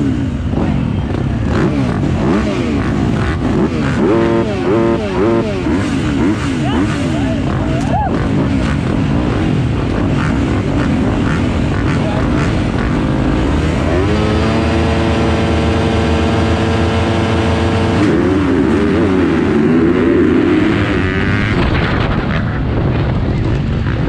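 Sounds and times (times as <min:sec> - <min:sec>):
dirt bikes revving: 0:00.0 - 0:24.0.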